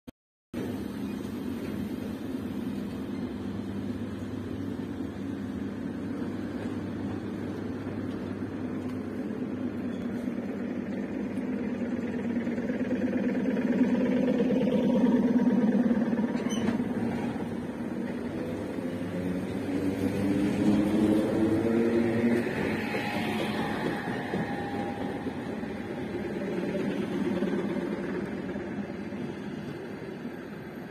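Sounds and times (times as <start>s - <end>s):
electric train pulling away: 0.6s - 30.9s
train whine rising in pitch: 0.6s - 30.9s.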